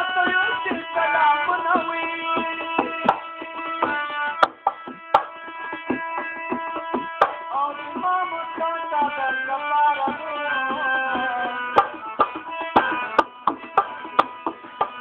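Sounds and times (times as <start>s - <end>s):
held melodic notes: 0.0s - 15.0s
tabla drumming: 0.0s - 15.0s.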